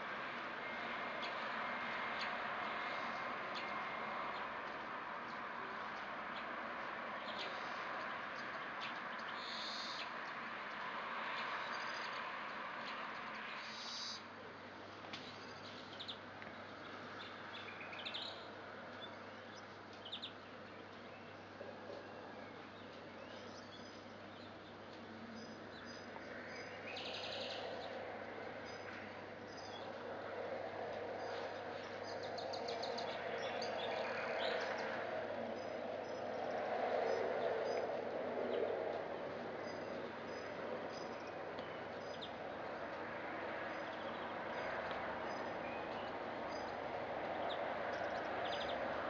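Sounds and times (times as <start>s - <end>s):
songbirds chirping: 0.0s - 49.0s
steady rushing background noise: 0.0s - 49.0s.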